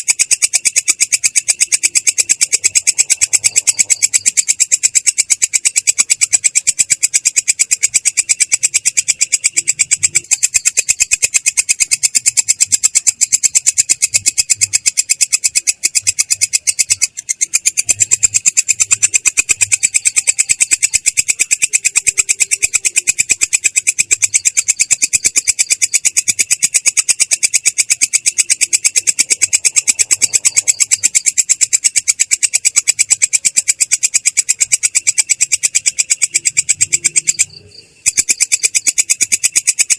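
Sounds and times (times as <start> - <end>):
katydid rasping trill: 0.0 - 39.9.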